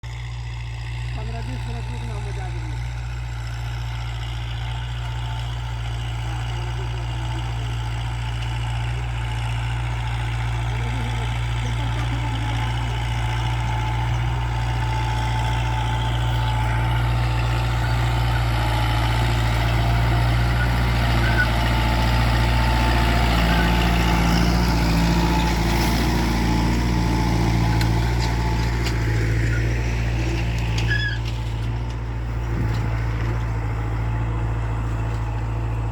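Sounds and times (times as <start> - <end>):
tractor diesel engine droning: 0.0 - 35.9.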